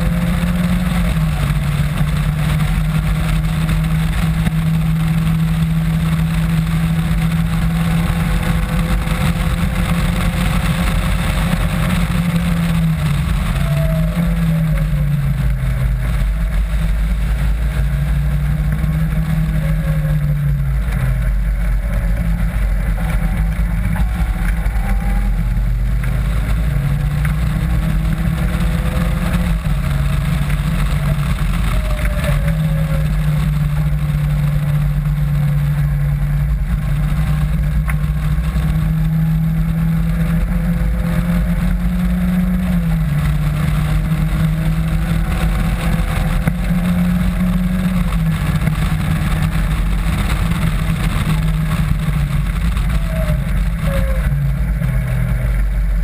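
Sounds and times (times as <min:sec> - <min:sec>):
sports car engine revving: 0:00.0 - 0:56.0
wind rumble: 0:00.0 - 0:56.0.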